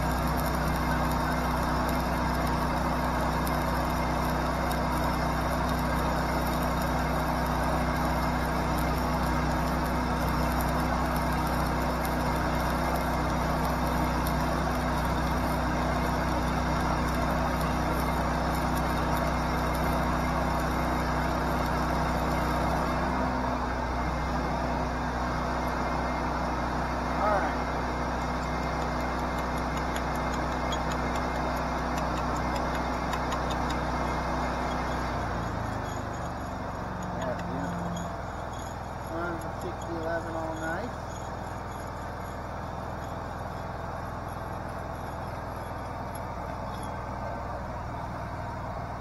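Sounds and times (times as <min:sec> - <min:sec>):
welder engine running: 0:00.0 - 0:49.0
welding arc burning: 0:00.0 - 0:49.0.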